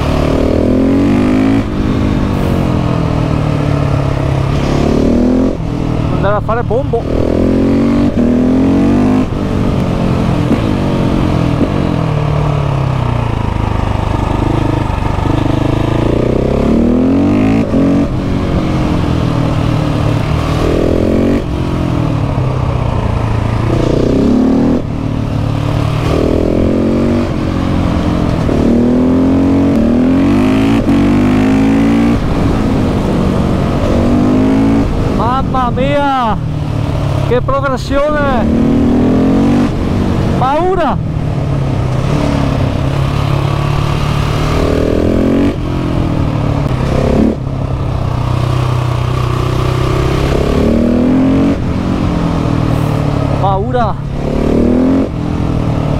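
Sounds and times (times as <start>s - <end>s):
motorcycle engine revving through gears: 0.0s - 55.9s.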